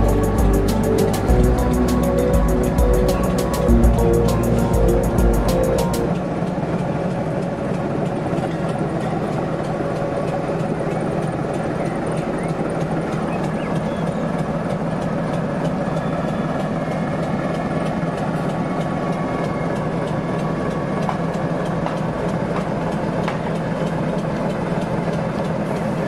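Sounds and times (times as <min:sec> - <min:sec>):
diesel locomotive engine drone: 0:00.0 - 0:26.0.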